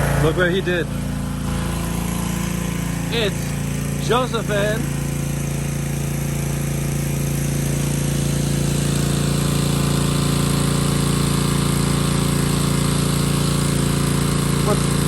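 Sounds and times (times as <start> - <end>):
pressure washer engine running: 0.0 - 15.0.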